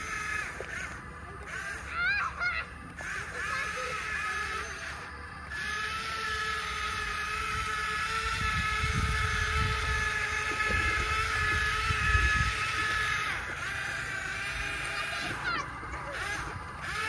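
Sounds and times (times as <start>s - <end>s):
toy electric motors whining: 0.0s - 17.0s.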